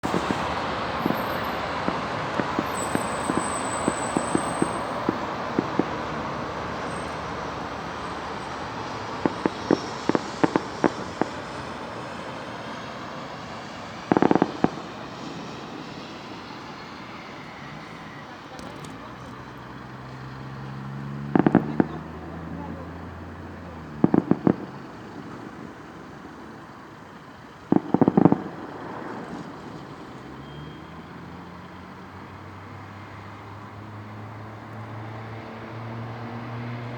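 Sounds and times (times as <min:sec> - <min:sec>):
city traffic hum: 0:00.0 - 0:36.9
fireworks bangs and crackling: 0:00.0 - 0:36.9.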